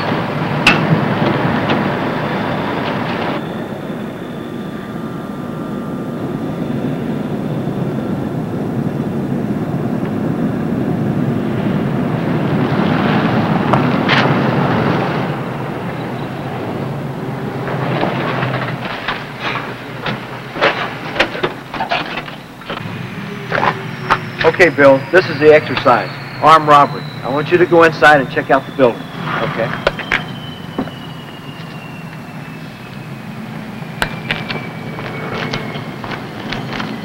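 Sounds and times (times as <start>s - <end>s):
engine rumble: 0.0s - 37.0s.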